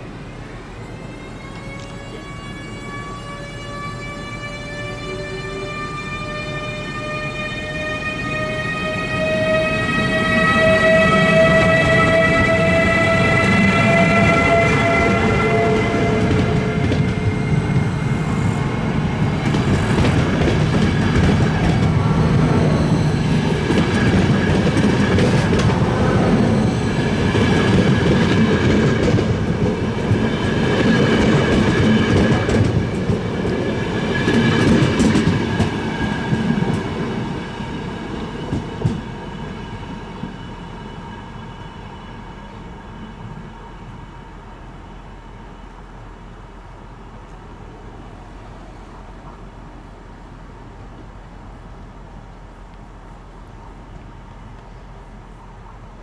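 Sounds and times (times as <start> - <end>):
train wheels rumbling on track: 4.3 - 56.0.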